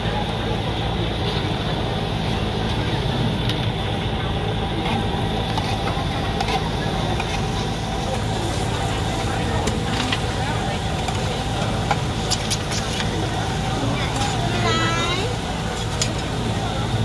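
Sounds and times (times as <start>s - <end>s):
voices chattering: 0.0s - 17.0s.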